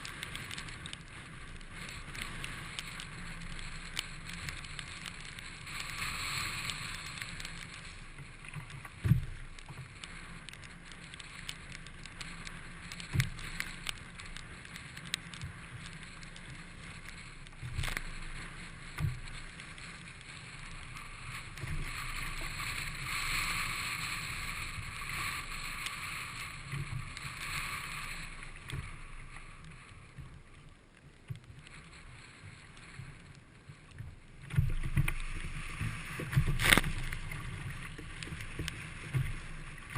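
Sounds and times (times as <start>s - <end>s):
water washing around kayak: 0.0s - 39.9s.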